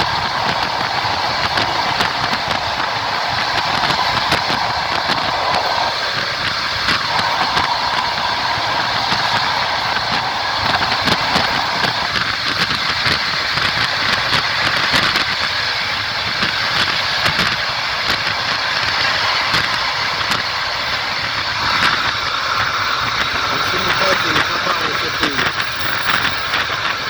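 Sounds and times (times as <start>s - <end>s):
sharp clicks and rattles: 0.0s - 27.0s
train wheels rumbling on rails: 0.0s - 27.0s.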